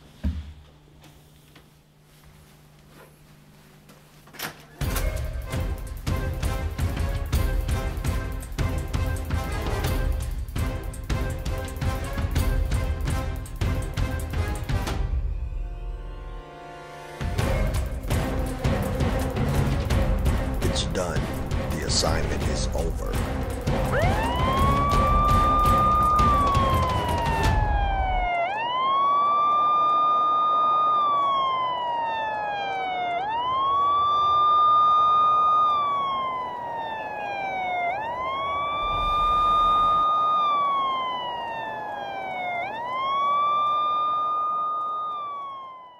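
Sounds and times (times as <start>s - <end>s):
emergency siren wailing: 4.7s - 45.9s.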